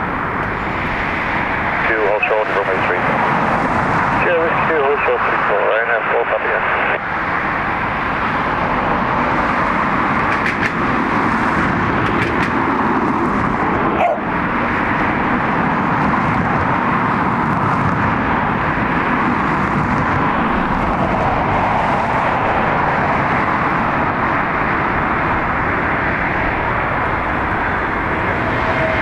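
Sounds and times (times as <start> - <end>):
jet airliner roar: 0.0 - 29.0.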